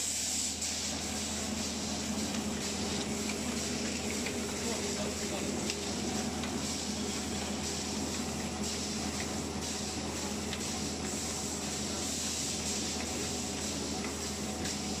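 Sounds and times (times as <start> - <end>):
low machine hum: 0.9 - 15.0.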